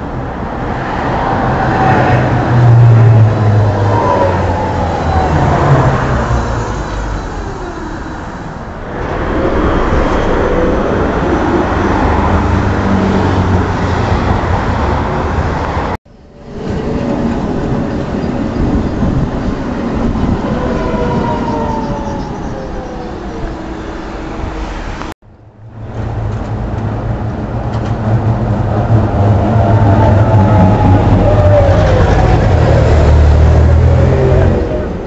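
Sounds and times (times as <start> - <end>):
tram rail rumble: 0.0 - 35.0
tram motor whine: 1.8 - 14.2, 15.5 - 35.0.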